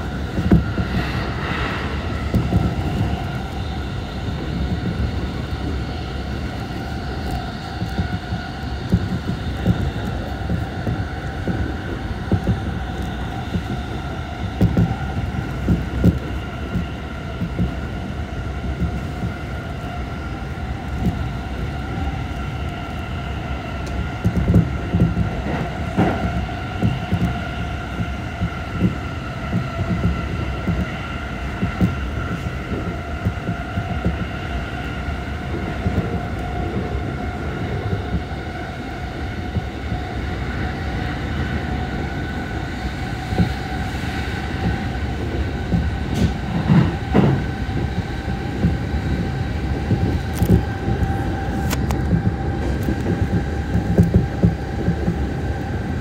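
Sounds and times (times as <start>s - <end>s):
train motor whine: 0.0s - 56.0s
train wheels rumbling on rail: 0.0s - 56.0s.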